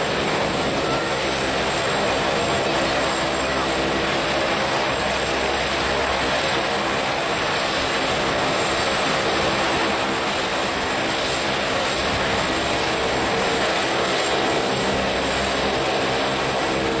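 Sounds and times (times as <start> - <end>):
helicopter taking off: 0.0 - 17.0.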